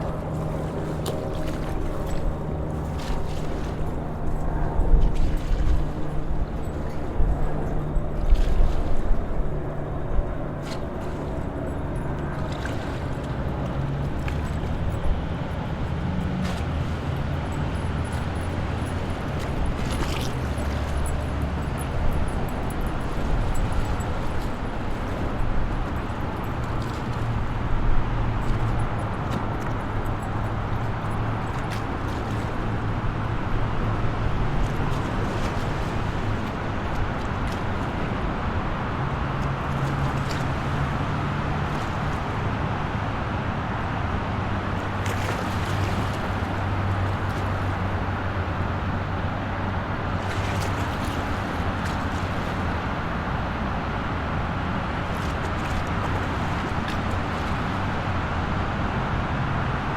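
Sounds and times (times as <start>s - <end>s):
highway traffic passing: 0.0s - 59.9s.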